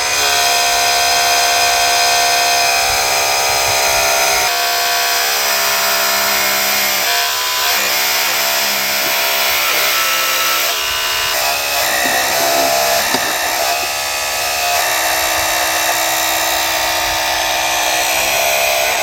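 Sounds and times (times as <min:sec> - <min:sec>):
small electric motor whine: 0:00.0 - 0:19.0.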